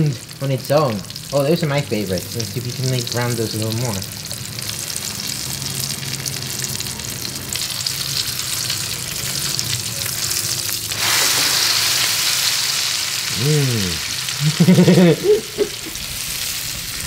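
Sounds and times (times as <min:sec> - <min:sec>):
omelette sizzling in hot oil: 0:00.0 - 0:17.0.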